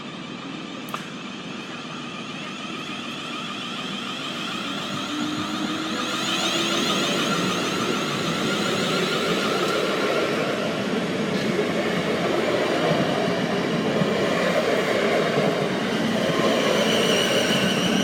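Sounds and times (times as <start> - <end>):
electric train running: 0.2 - 18.0.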